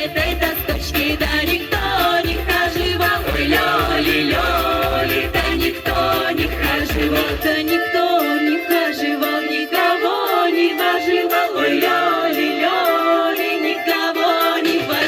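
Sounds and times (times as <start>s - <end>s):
voices singing sliding notes: 0.0s - 15.0s.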